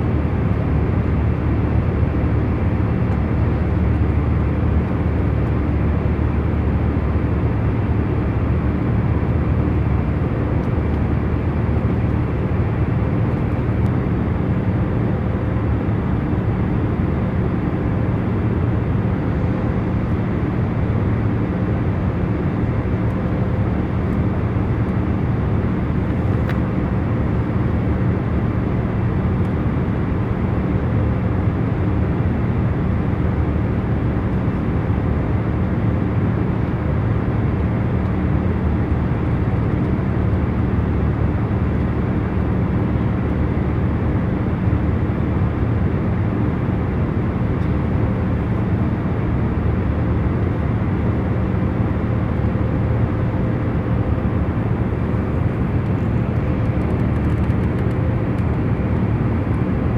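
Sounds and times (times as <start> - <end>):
airliner cabin engine hum: 0.0 - 59.9.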